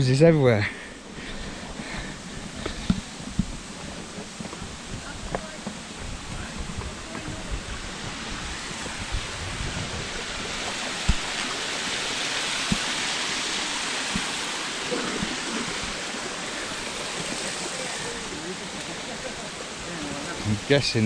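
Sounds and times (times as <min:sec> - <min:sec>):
water rushing in streams: 0:00.0 - 0:21.0.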